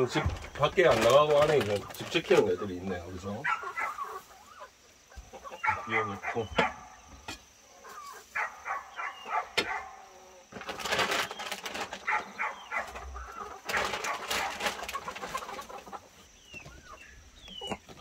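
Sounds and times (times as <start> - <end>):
rustling and scraping: 0.0 - 5.8, 9.3 - 18.0
chickens clucking: 0.0 - 18.0.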